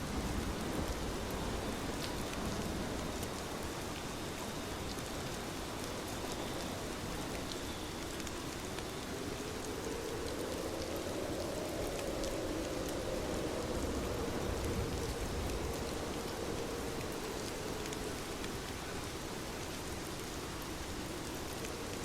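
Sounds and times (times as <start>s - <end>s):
steady rain hiss: 0.0s - 22.0s
raindrop ticks: 0.2s - 22.0s.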